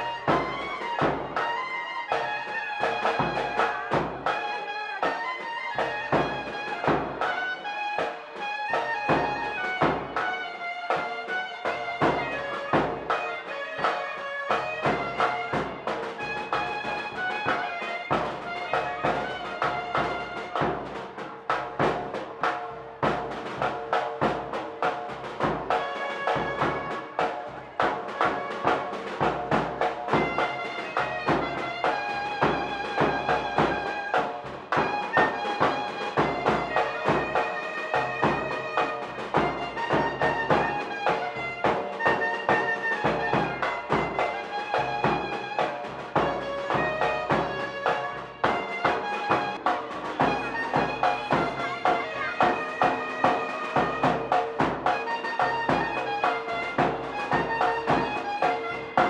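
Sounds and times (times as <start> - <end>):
quick drum strokes: 0.0 - 59.0.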